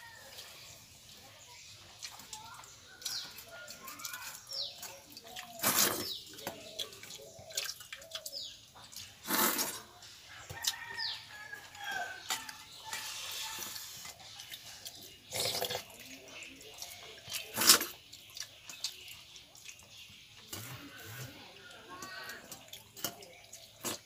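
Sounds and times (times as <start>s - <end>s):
chickens clucking and chirping: 0.0s - 24.0s.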